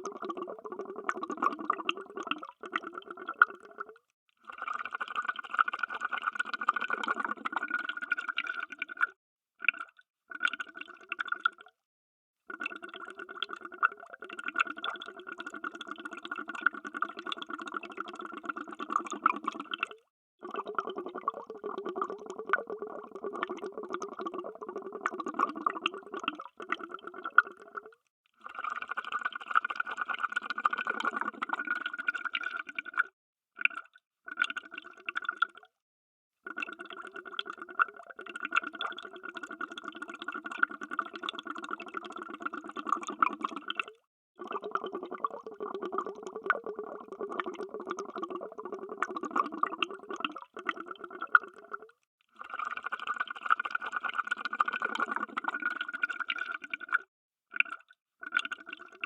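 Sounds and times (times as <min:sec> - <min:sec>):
underwater bubbles gurgling: 0:00.0 - 0:04.0, 0:04.6 - 0:11.7, 0:12.6 - 0:28.0, 0:28.7 - 0:33.0, 0:36.5 - 0:59.0.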